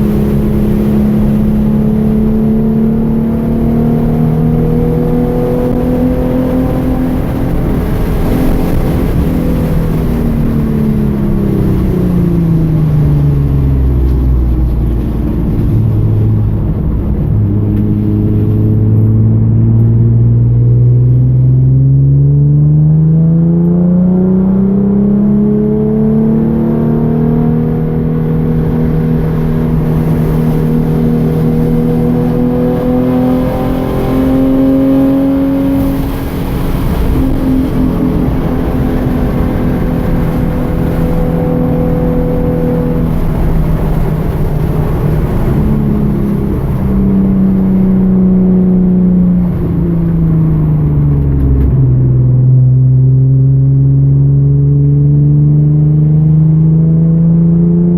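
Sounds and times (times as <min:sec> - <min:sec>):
car engine revving on track: 0:00.0 - 0:57.9.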